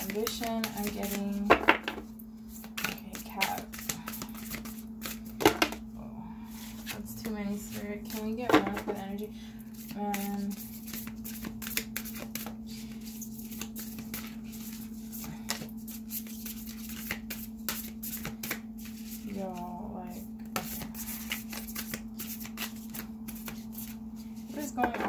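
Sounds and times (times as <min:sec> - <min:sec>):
cards being shuffled: 0:00.0 - 0:05.8, 0:09.8 - 0:19.6, 0:20.5 - 0:25.0.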